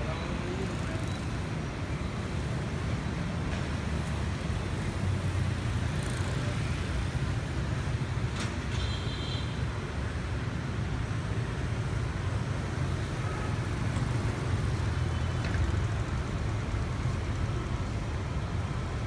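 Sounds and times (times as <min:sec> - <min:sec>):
scooters and cars passing: 0:00.0 - 0:19.0.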